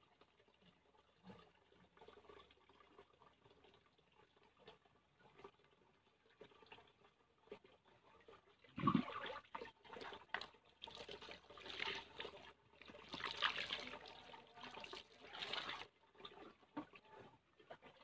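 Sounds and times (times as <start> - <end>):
water trickling and dripping: 0.0 - 18.0.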